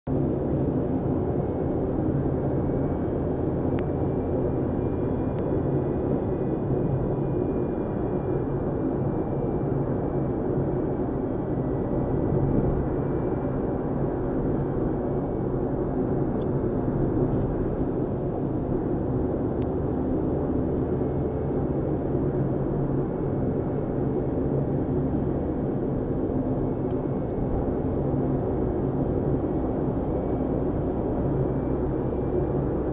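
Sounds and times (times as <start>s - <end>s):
car interior droning roar: 0.1s - 32.9s.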